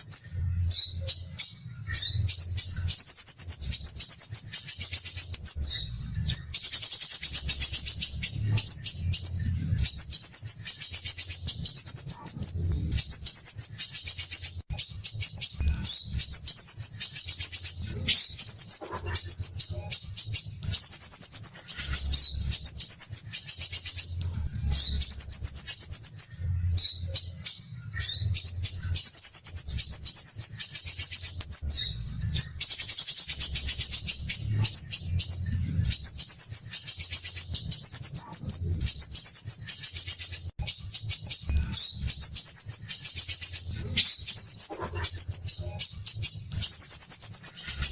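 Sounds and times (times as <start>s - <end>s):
bird singing harsh high trills: 0.0s - 47.9s.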